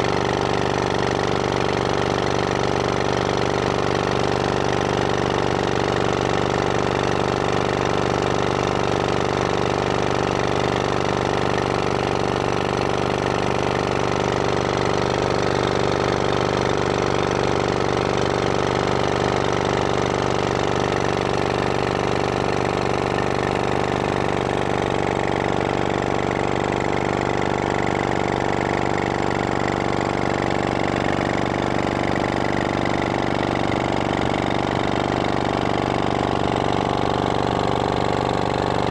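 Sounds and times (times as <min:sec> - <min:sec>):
two-stroke outboard motor running: 0:00.0 - 0:38.9.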